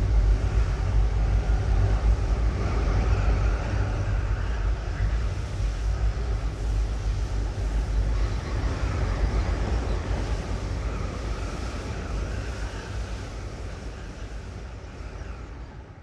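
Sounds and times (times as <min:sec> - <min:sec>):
aircraft engines droning: 0:00.0 - 0:16.0
rushing air: 0:00.0 - 0:16.0.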